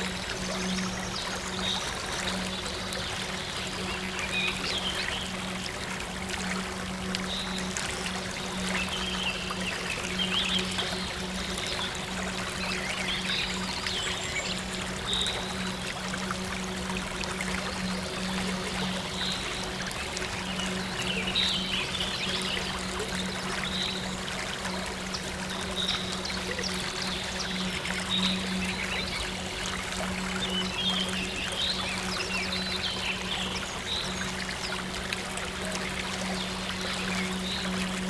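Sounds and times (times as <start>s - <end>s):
soft low synth drone: 0.0s - 38.0s
trickling flowing water: 0.0s - 38.0s.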